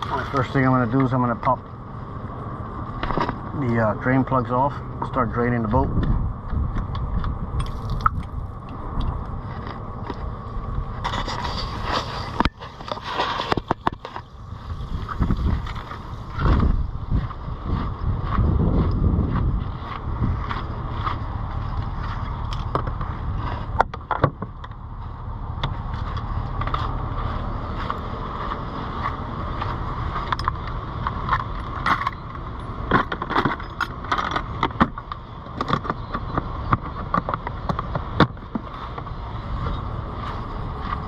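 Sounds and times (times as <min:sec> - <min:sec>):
wind rumble on microphone: 0:04.9 - 0:41.0.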